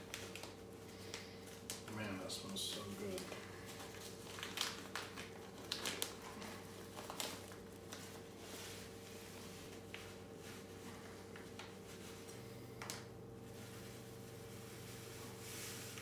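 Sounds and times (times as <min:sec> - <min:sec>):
faint steady hum: 0:00.0 - 0:16.0
plastic bag crinkling: 0:00.0 - 0:16.0.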